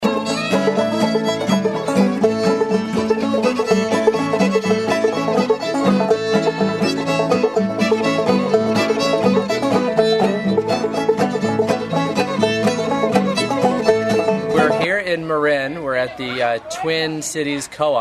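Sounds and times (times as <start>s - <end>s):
instrumental music with plucked strings: 0.0s - 15.3s.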